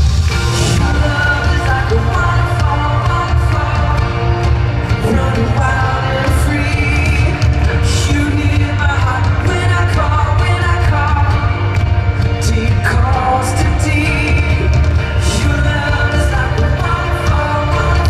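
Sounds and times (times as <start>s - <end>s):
heavy bass: 0.0s - 18.0s
live band playing worship song: 0.0s - 18.0s
singing: 0.6s - 11.6s, 12.3s - 18.0s.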